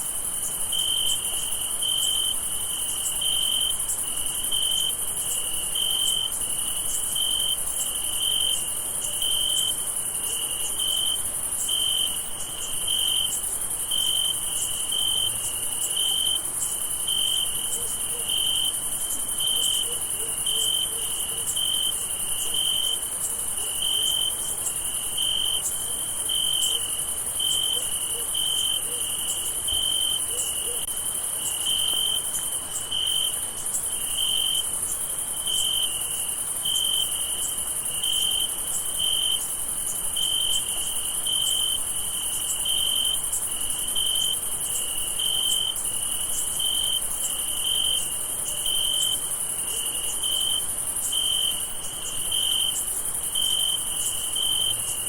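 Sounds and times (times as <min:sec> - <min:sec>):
crickets trilling: 0:00.0 - 0:55.0
nearby cricket chirping: 0:00.0 - 0:55.0.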